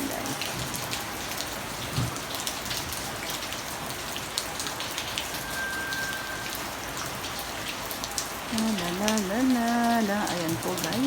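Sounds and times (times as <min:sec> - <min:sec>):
heavy rain falling: 0:00.0 - 0:11.0
raindrops ticking close by: 0:00.0 - 0:11.0.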